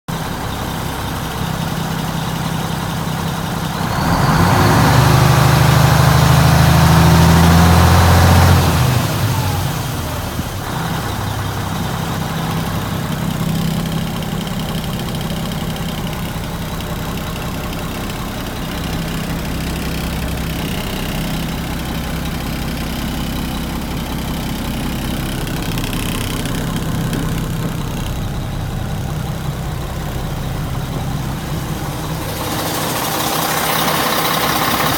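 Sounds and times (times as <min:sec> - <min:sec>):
diesel truck engine idling and revving: 0:00.1 - 0:34.9.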